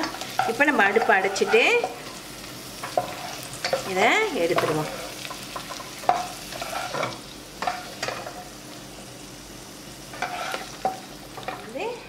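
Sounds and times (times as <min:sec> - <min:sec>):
spatula scraping a pan: 0:00.0 - 0:08.4, 0:10.1 - 0:11.6
nuts sizzling in a pan: 0:00.0 - 0:12.0.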